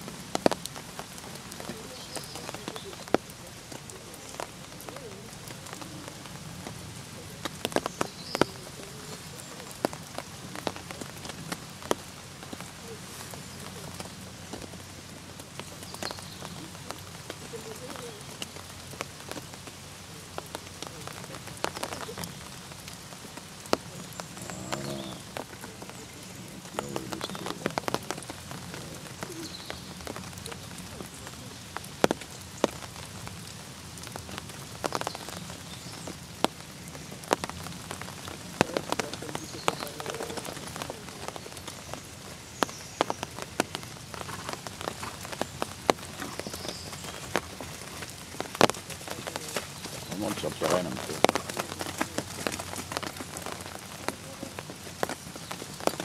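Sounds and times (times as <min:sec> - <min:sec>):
raindrops ticking close by: 0:00.0 - 0:56.0
steady rain: 0:00.0 - 0:56.0.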